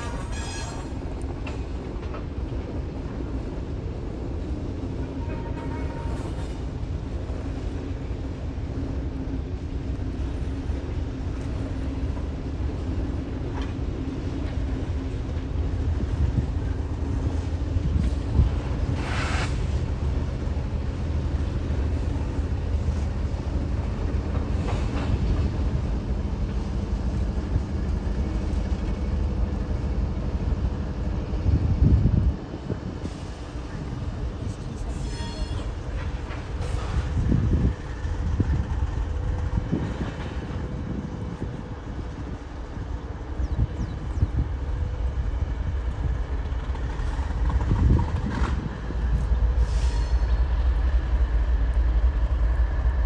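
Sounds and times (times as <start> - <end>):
diesel locomotives rumbling: 0.0 - 53.0.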